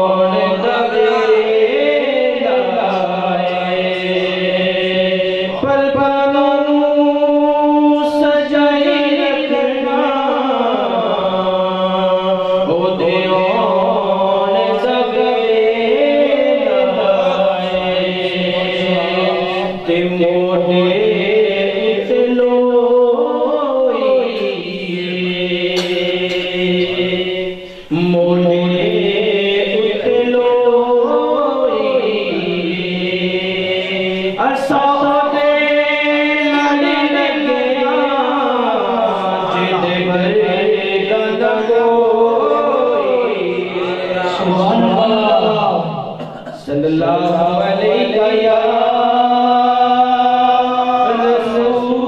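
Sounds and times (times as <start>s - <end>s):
man singing chant: 0.0s - 52.0s.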